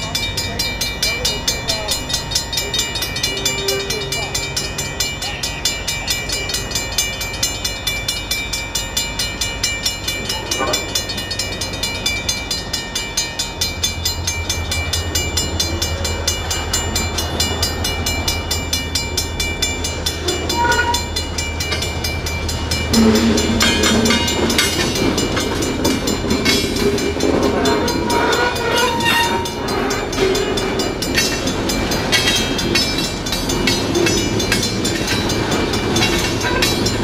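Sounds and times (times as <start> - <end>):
crossing warning bell ringing: 0.0 - 37.0
locomotive engine drone: 0.0 - 37.0.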